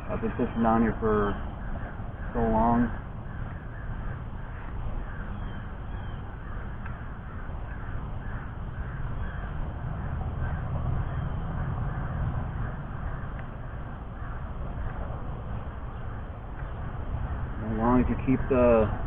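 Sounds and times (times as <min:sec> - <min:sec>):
crows cawing: 0:00.0 - 0:19.0.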